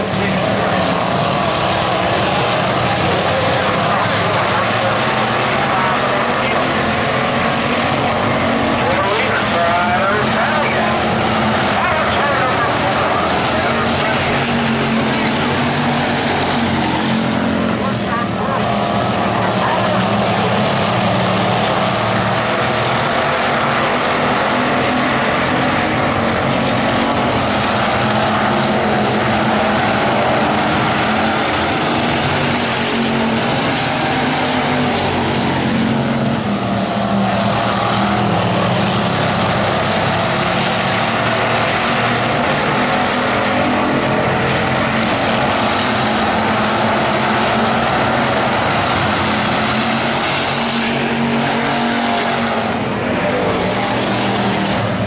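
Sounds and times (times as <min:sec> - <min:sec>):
stock car engines racing: 0:00.0 - 0:55.0.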